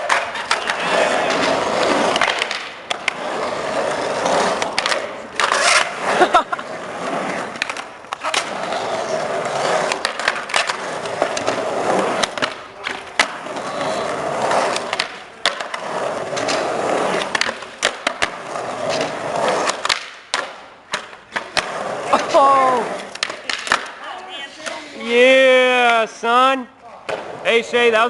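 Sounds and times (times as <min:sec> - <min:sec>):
skateboard clacking on ground: 0:00.0 - 0:24.9, 0:27.0 - 0:27.4
skateboard wheels rolling on concrete: 0:00.0 - 0:28.0.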